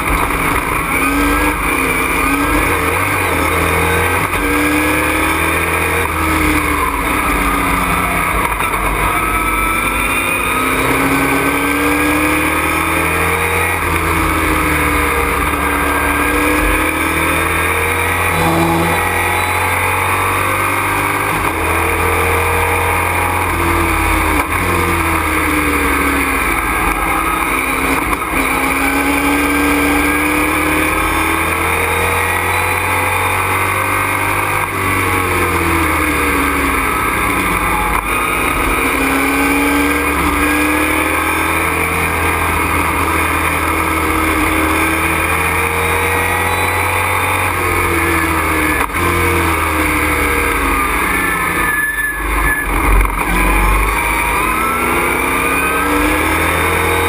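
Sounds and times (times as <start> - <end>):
race truck engine revving: 0.0 - 57.0
road and drivetrain rumble: 0.0 - 57.0.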